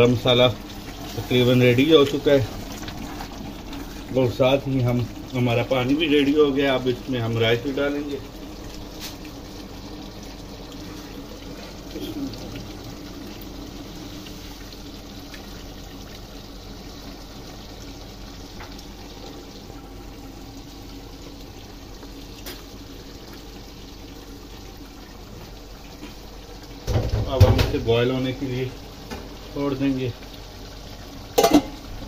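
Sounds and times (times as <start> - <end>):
boiling water bubbling: 0.0 - 32.0
water pouring into a pot: 0.0 - 32.0.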